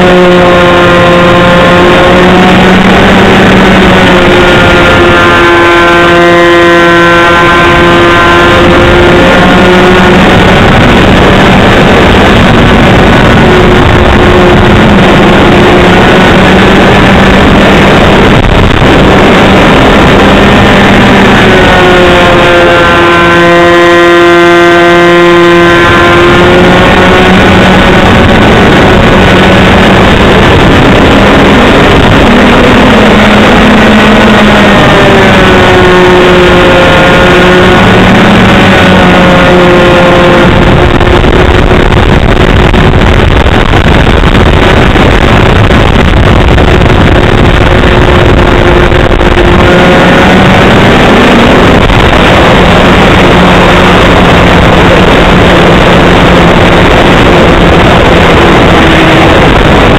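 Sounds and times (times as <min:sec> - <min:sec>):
model airplane engine running: 0:00.0 - 0:59.9
wind noise on microphone: 0:00.0 - 0:59.9.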